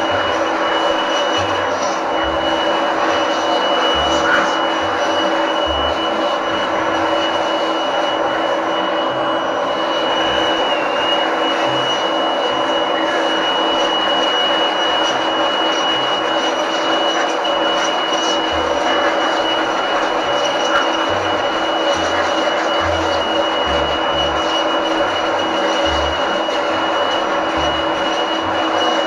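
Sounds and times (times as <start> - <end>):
blower rushing air: 0.0 - 29.0
high motor whine: 0.0 - 29.0.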